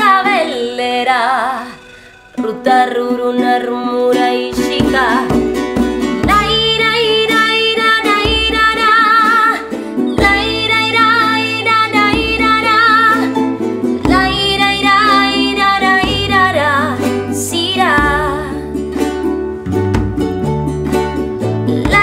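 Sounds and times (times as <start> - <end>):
song with plucked strings: 0.0 - 22.0.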